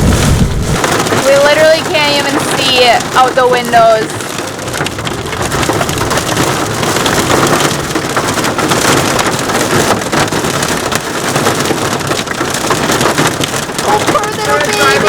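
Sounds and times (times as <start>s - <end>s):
heavy rain on car roof: 0.0s - 15.0s.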